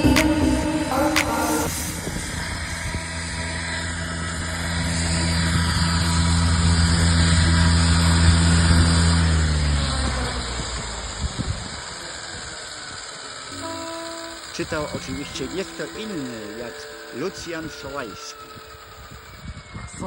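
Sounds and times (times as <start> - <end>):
motor running: 1.7 - 19.4.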